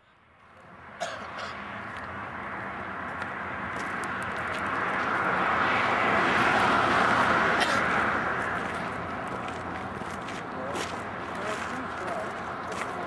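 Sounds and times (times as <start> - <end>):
vehicle passing: 0.4 - 13.0.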